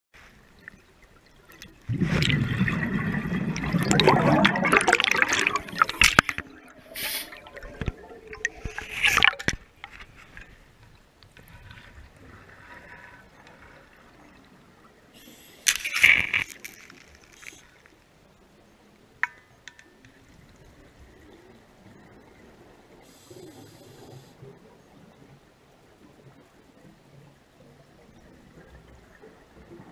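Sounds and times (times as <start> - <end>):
muffled underwater wash: 0.2 - 29.9
water gurgling: 0.4 - 29.9.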